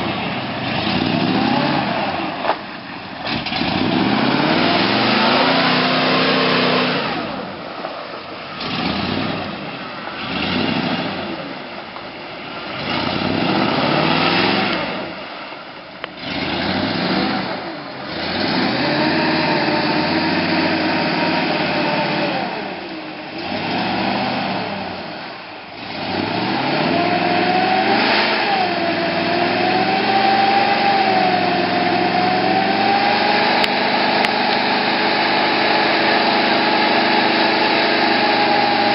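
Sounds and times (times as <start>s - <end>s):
engine revving: 0.0s - 2.6s, 3.2s - 7.8s, 8.5s - 11.6s, 12.6s - 15.3s, 16.0s - 38.9s.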